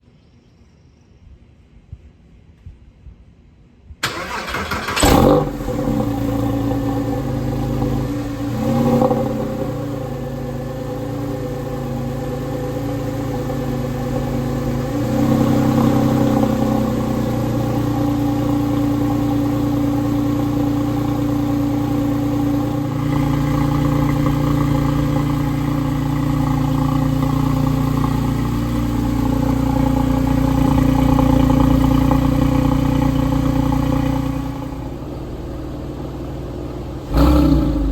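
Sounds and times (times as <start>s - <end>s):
car engine fast idle: 4.0s - 37.9s.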